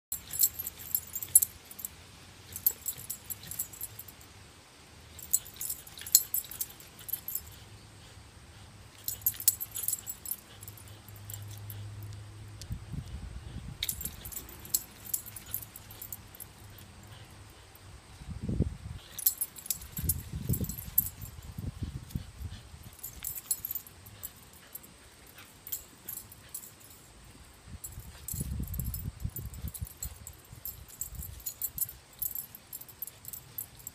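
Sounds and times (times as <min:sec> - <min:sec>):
metal chain collar jingling: 0:00.0 - 0:04.3, 0:05.1 - 0:08.1, 0:08.9 - 0:12.2, 0:13.8 - 0:17.9, 0:19.0 - 0:33.9.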